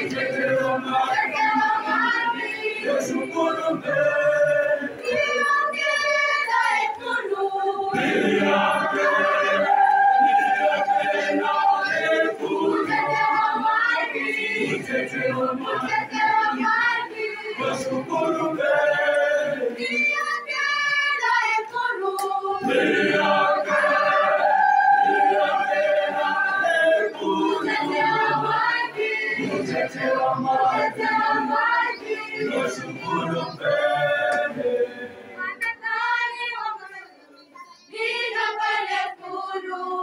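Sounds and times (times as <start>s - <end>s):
mixed choir singing: 0.0s - 40.0s.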